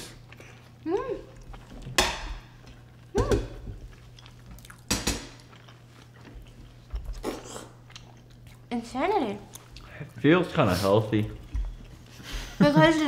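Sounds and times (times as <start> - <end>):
wet chewing sounds: 0.0 - 12.6.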